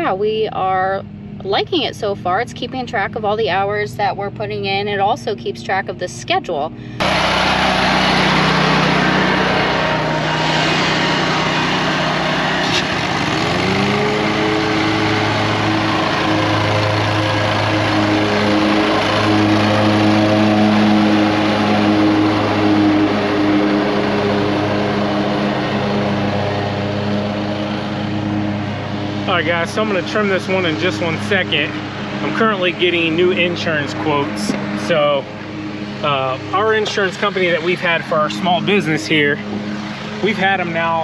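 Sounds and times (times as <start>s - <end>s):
lawn mower engine running: 6.9s - 41.0s.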